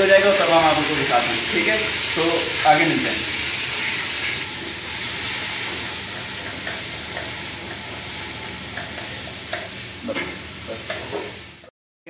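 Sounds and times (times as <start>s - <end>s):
chicken frying in oil: 0.0s - 11.7s.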